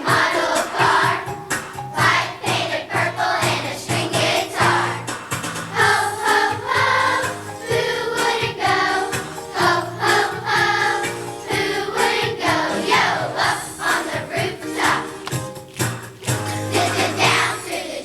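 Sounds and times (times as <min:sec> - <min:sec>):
children's choir singing: 0:00.0 - 0:15.4, 0:16.6 - 0:18.0
instrumental accompaniment: 0:00.0 - 0:17.8.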